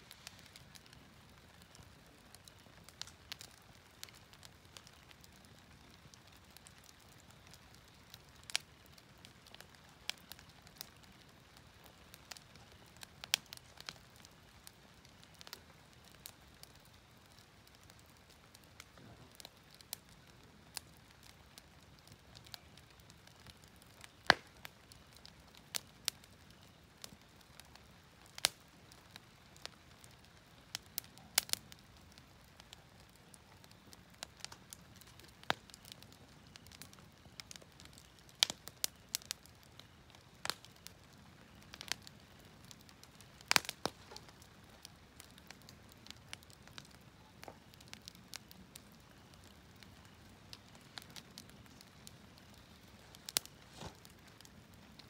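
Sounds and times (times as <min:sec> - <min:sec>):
faint low hiss: 0:00.0 - 0:55.0
sharp pops of fire: 0:00.0 - 0:55.0
wood fire crackling: 0:00.0 - 0:55.0.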